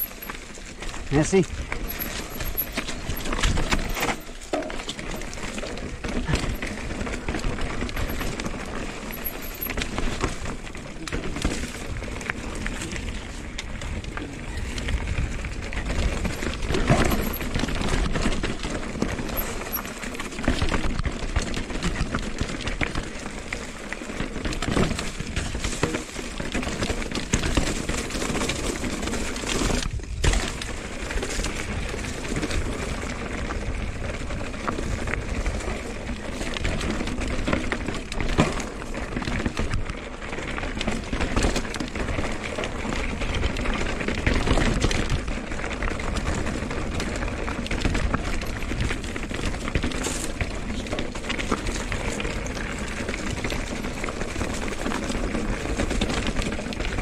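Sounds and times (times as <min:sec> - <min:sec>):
bike knocking and rattling: 0:00.0 - 0:57.0
bike tyres rolling over gravel: 0:00.0 - 0:57.0.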